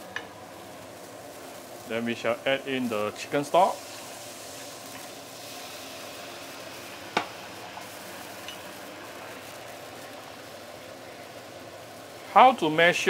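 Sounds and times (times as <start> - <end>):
stock sizzling in a wok: 0.0 - 13.0.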